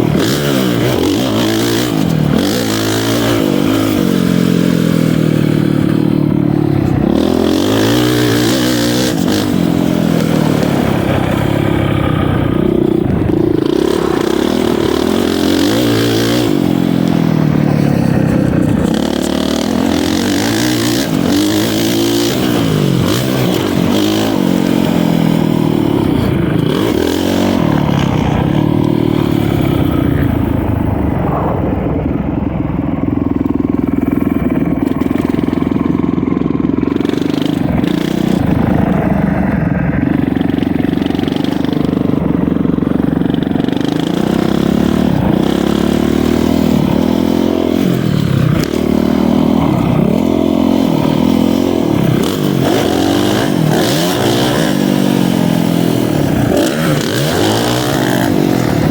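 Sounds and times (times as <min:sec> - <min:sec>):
motocross bike engine revving: 0:00.0 - 0:58.9.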